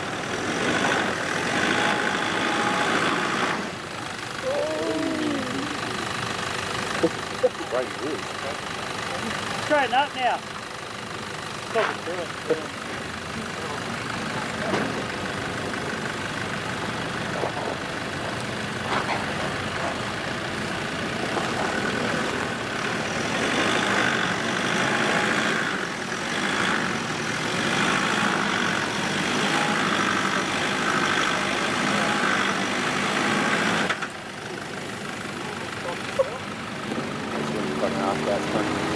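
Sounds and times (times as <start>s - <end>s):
off-road vehicle engine at low revs: 0.0s - 38.9s.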